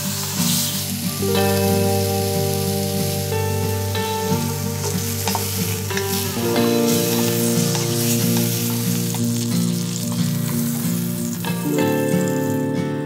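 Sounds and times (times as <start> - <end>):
wooden spatula in pan: 0.0 - 1.7, 2.6 - 11.5
steak sizzling in butter: 0.0 - 12.7
background music: 0.0 - 13.0.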